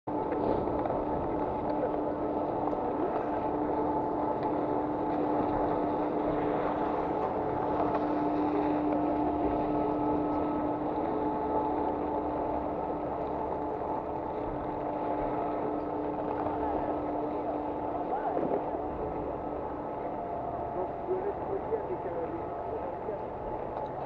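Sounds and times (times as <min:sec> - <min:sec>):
steady hum: 0:00.1 - 0:24.0
wind rumble on microphone: 0:00.1 - 0:24.0.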